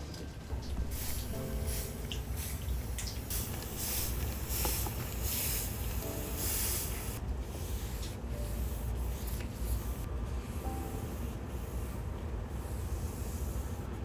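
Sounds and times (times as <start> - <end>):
steady low rumble: 0.0 - 14.0
hissing rubbing strokes: 0.7 - 14.0.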